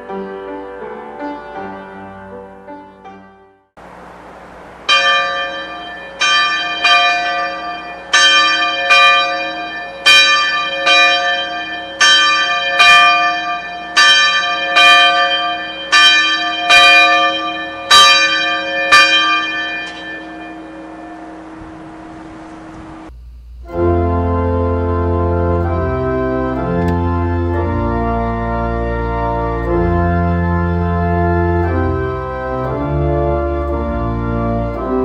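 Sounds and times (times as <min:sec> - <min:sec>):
church bell ringing: 0:00.0 - 0:23.1, 0:23.8 - 0:35.0.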